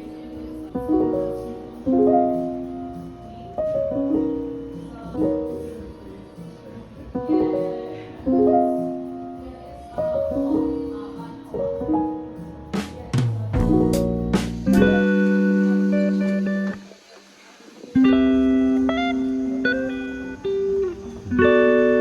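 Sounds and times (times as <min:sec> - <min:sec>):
soft piano chords: 0:00.0 - 0:16.9, 0:18.0 - 0:22.0.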